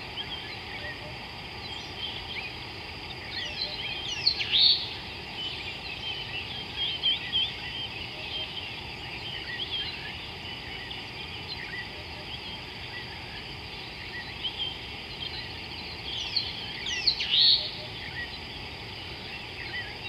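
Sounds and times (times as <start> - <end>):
low outdoor background noise: 0.0 - 20.0
steady high hiss: 0.0 - 20.0.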